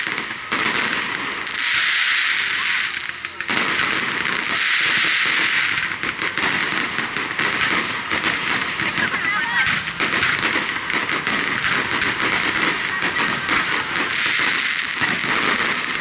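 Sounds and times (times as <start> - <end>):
fireworks crackling and popping: 0.0 - 16.0
fireworks whistling: 0.0 - 16.0.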